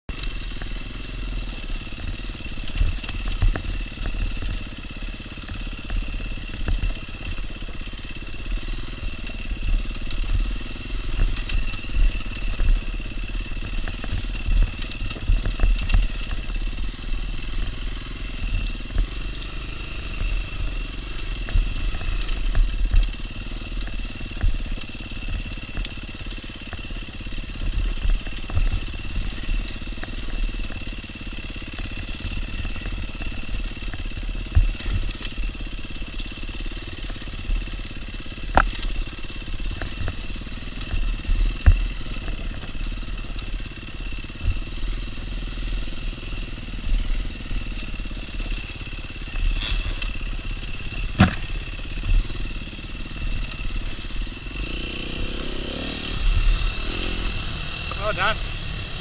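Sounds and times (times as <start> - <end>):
dirt bike engine: 0.1 - 59.0.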